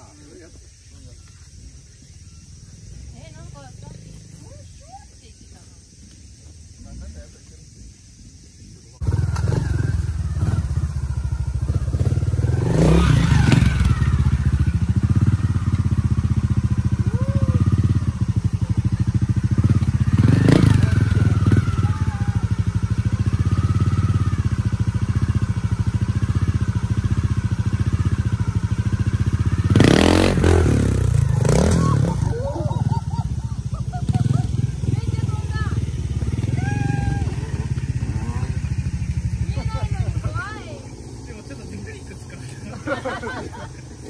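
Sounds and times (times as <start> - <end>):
motorcycle engine revving: 0.2 - 4.8, 9.0 - 44.0.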